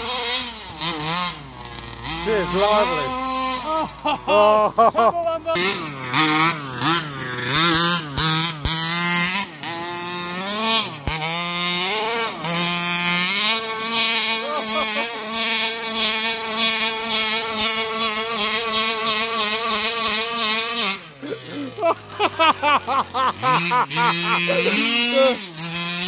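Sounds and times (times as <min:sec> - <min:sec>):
small petrol engine revving: 0:00.0 - 0:26.0.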